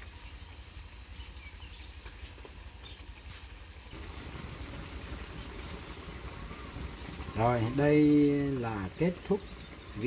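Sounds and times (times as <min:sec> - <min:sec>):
meat sizzling in a wok: 0:00.0 - 0:10.0.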